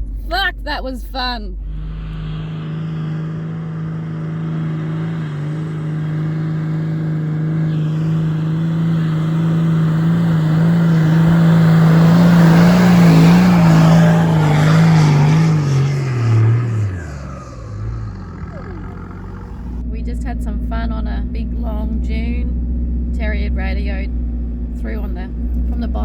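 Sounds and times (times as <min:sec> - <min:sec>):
off-road vehicle engine under load: 0:00.0 - 0:26.0.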